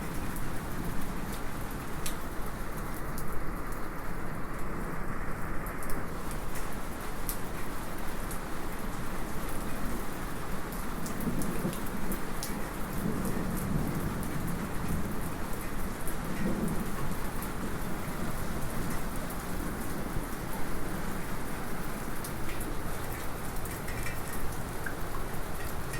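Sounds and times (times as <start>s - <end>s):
light rain falling: 0.0s - 25.9s.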